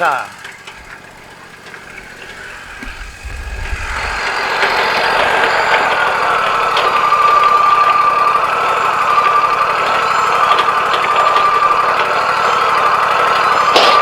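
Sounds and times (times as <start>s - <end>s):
sawmill engine and hydraulics: 0.0s - 14.0s
steady machine whine: 0.0s - 14.0s.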